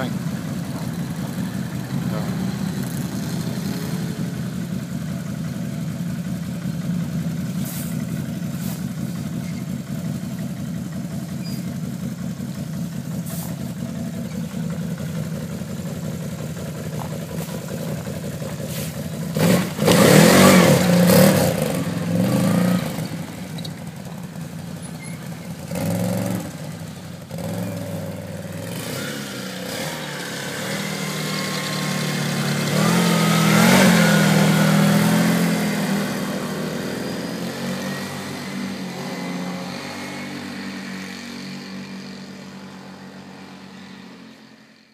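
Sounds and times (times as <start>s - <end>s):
atv engines idling: 0.0s - 40.1s
atv engine revving: 0.0s - 44.4s
quad passing by: 0.0s - 44.6s.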